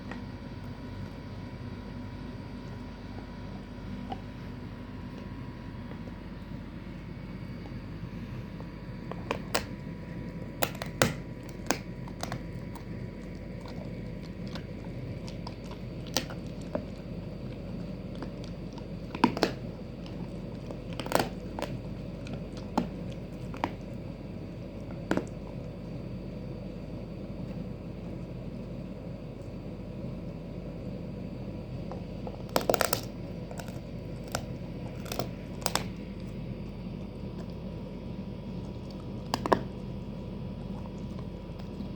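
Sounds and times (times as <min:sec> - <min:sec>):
dog crunching a bone: 0:05.1 - 0:26.7, 0:27.4 - 0:41.9.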